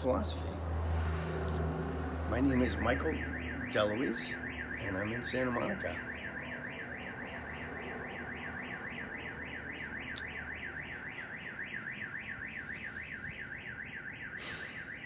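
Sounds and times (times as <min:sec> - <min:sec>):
car alarm warbling: 0:02.4 - 0:15.0.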